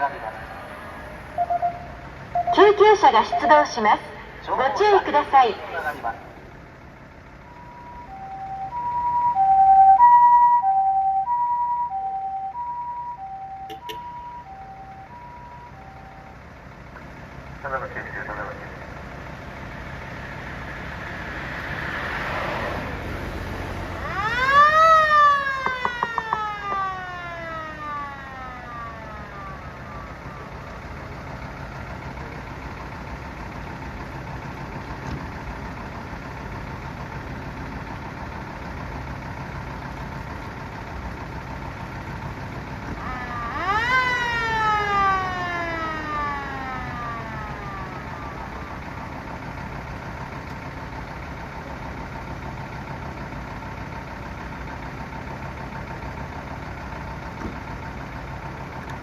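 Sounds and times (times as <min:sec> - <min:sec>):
engine idling: 0:00.0 - 0:59.0
fire engine siren wailing: 0:00.0 - 0:59.0.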